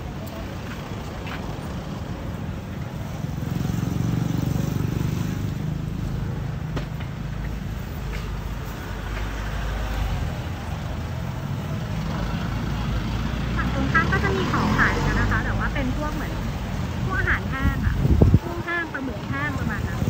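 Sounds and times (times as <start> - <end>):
vehicle engine rumble passing: 0.0 - 20.0.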